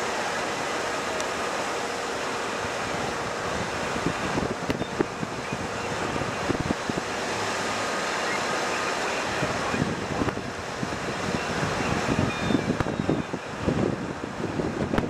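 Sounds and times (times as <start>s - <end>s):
wind buffeting microphone: 2.6s - 15.0s.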